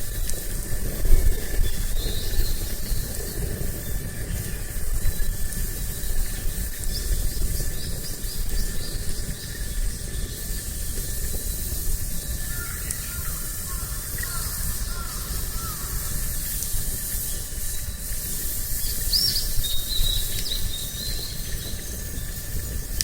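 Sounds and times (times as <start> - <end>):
hiss: 0.0 - 23.0
low wind rumble: 0.0 - 23.0.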